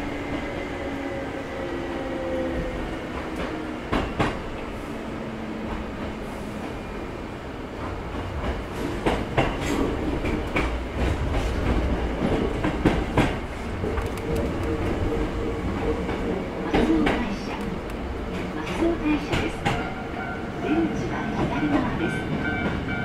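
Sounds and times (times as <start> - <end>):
low rumble of wheels on rail: 0.0 - 23.0.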